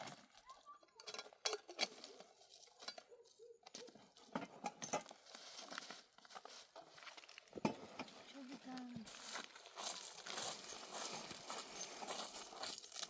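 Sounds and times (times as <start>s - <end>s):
rustling of things handled: 0.0s - 13.0s.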